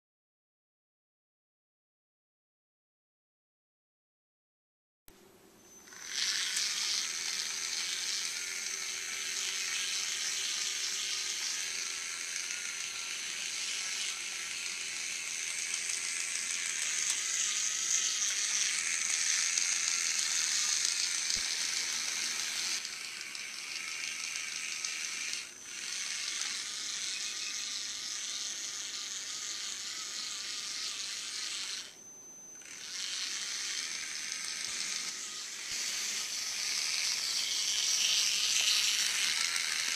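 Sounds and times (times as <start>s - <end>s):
small motors whining: 5.8s - 39.9s.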